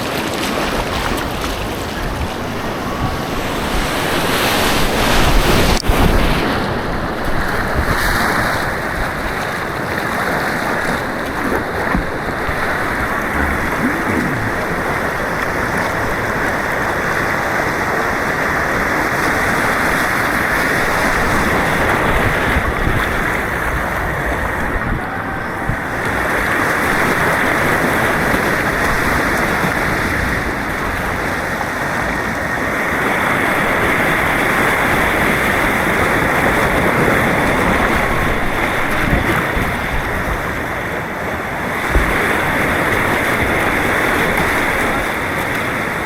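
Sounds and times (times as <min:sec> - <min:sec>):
rushing white water: 0:00.0 - 0:46.0.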